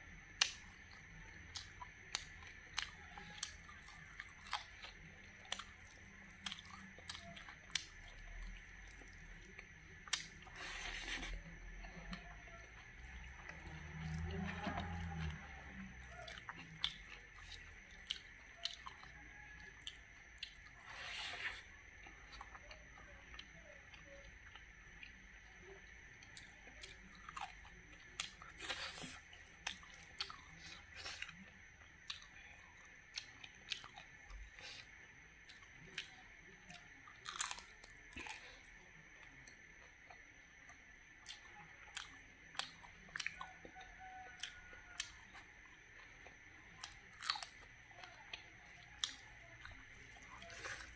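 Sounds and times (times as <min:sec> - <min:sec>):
chewing and crunching: 0:00.2 - 0:50.9.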